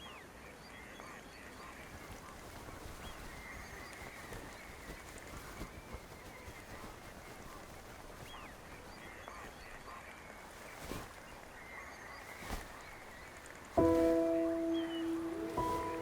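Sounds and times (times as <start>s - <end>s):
distant bird calls: 0.0s - 16.0s.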